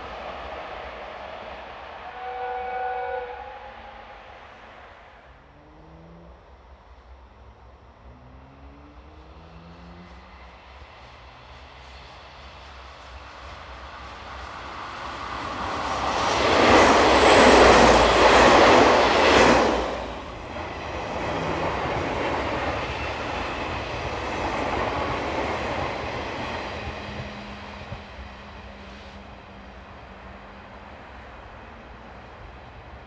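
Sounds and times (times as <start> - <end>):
electric train running past: 0.0 - 33.0.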